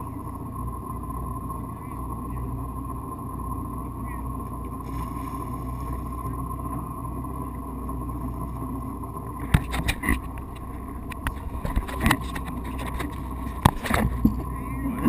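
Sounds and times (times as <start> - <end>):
motorboat engine humming: 0.0 - 15.0
thin steady whine: 0.0 - 15.0.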